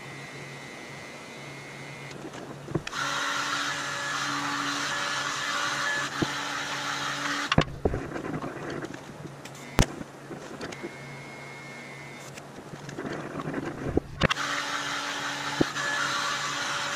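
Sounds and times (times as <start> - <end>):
welding arc hissing buzz: 0.0 - 16.9.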